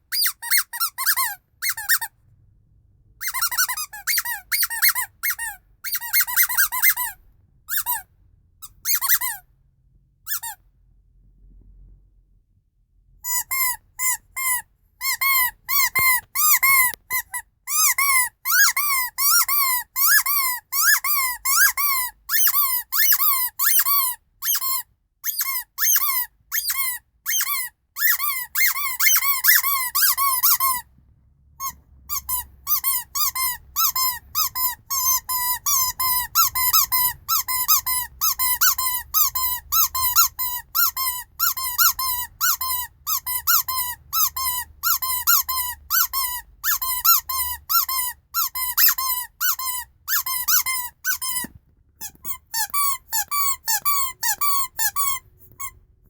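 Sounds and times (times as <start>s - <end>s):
rubber squeeze toys squeaking: 0.0s - 2.2s, 3.2s - 9.5s, 10.3s - 10.6s, 13.2s - 30.9s, 31.6s - 55.8s.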